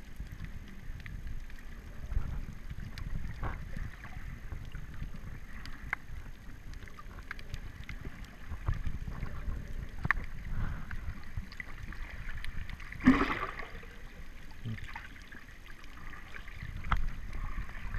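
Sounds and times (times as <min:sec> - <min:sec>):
faint underwater clicks: 0:00.0 - 0:17.9
rush of water: 0:00.0 - 0:17.9
underwater rumble of moving water: 0:00.0 - 0:17.9.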